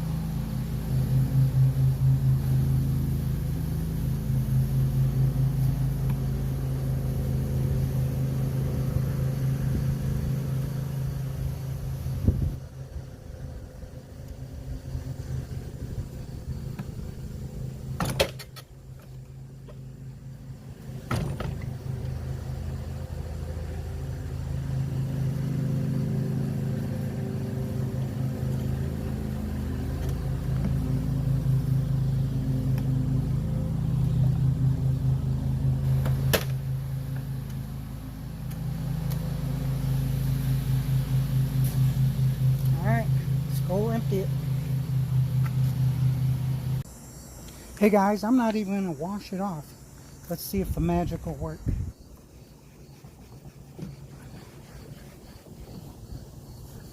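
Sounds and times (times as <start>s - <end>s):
electric lawn mower humming: 0.0s - 56.9s.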